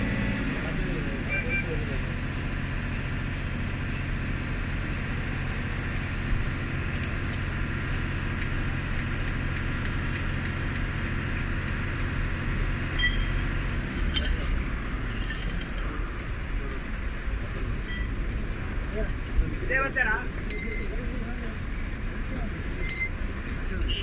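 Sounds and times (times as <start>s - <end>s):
bus diesel engine humming: 0.0s - 24.0s.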